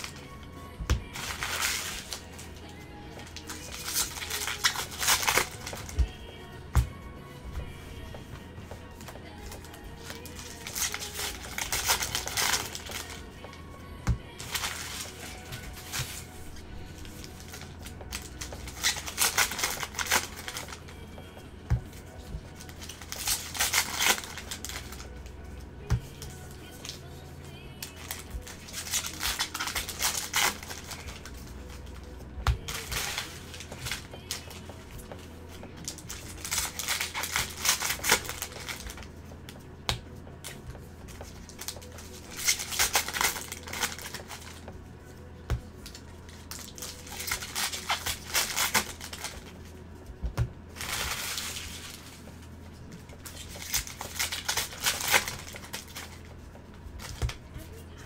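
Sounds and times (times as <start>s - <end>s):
low steady hum: 0.0s - 58.0s
trading cards shuffling: 0.0s - 58.0s.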